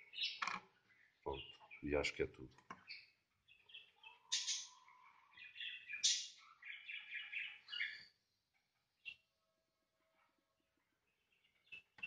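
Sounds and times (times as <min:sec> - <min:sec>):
small birds twittering: 0:00.0 - 0:12.0.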